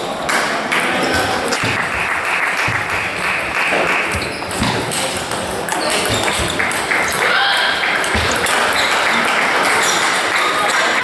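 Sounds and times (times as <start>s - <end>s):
crowd hubbub: 0.0s - 11.0s
people clapping: 0.2s - 4.5s, 6.0s - 11.0s
table tennis balls clicking: 1.5s - 11.0s.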